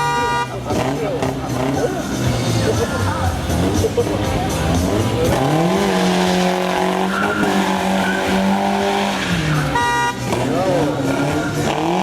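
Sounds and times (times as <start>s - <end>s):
engine revving high: 0.0s - 12.0s
tyres squealing: 0.0s - 12.0s.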